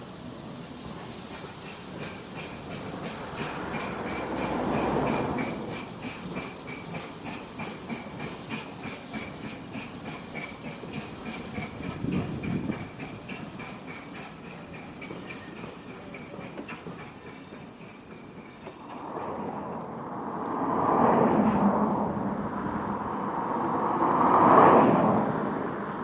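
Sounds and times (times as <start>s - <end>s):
steam train running on rails: 0.0s - 26.0s.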